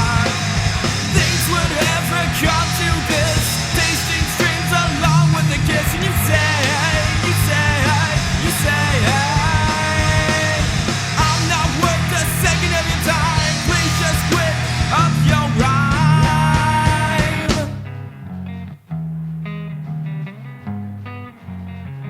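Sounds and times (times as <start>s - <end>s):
person singing: 0.0s - 17.9s
clean electric guitar: 0.0s - 22.0s
rock band playing: 0.0s - 22.0s.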